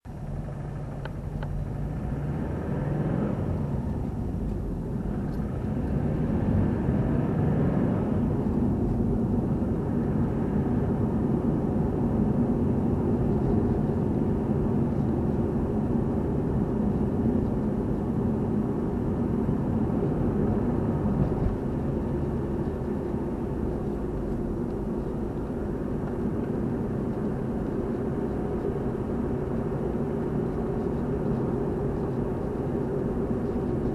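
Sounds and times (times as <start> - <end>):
car engine and road noise: 0.0 - 33.9.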